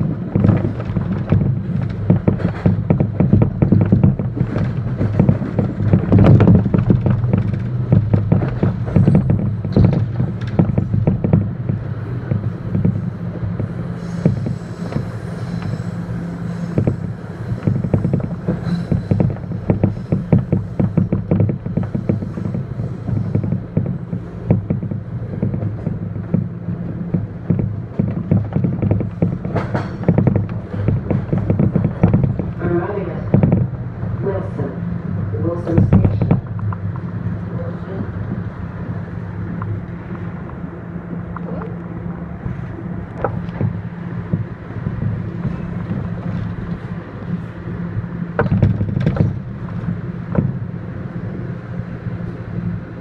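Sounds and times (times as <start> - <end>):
subway train rumble: 0.0 - 53.0
train rattles and clicks: 0.0 - 53.0
wheels clacking over track: 0.0 - 53.0.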